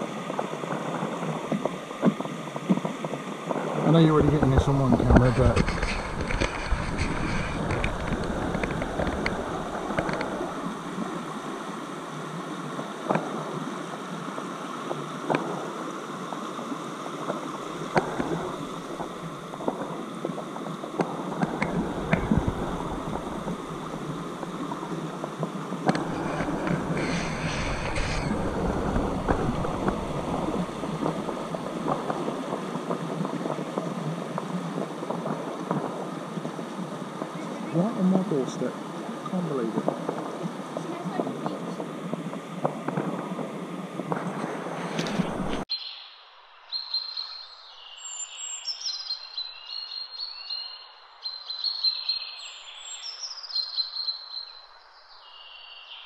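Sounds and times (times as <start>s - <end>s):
river rushing over stones: 0.0s - 45.7s
wind buffeting microphone: 0.0s - 45.7s.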